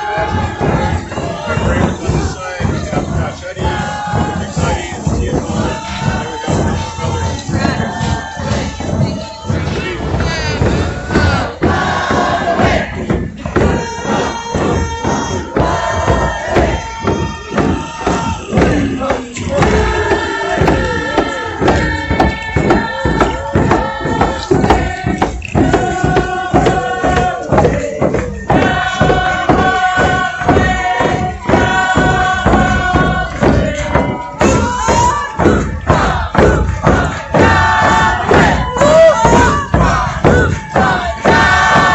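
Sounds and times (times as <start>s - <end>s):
group of voices chanting: 0.0s - 41.9s
steady drum beat: 0.0s - 41.9s.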